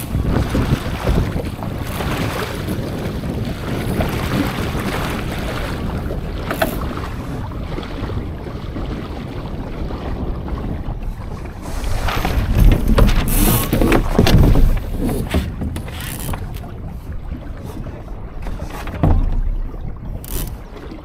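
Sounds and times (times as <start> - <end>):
water washing along hull: 0.0 - 21.0
wind buffeting microphone: 0.0 - 21.0.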